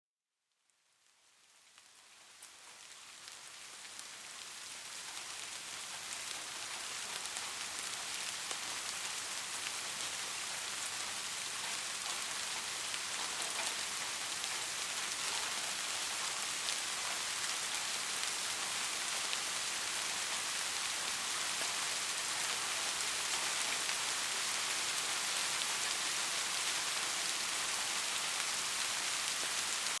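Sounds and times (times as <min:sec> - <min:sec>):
steady rain falling: 0:00.5 - 0:30.0.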